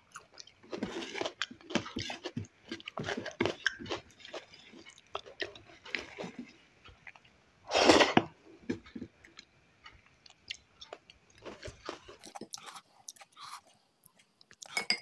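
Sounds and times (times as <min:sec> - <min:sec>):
person chewing food: 0:00.0 - 0:14.9.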